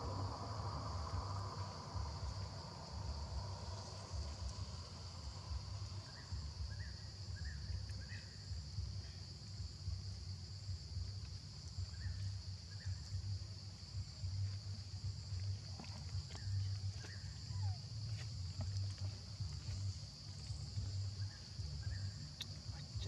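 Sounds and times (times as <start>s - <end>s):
faint chirps: 0.0s - 23.0s
insects droning: 0.0s - 23.0s
low rumble: 0.0s - 23.0s.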